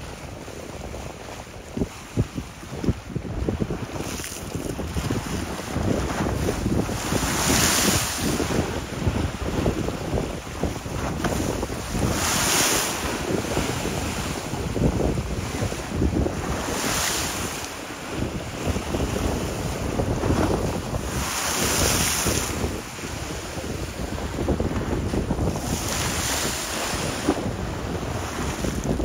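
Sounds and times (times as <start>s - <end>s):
choppy lake waves: 0.0s - 29.0s
wind buffeting microphone: 0.0s - 29.0s.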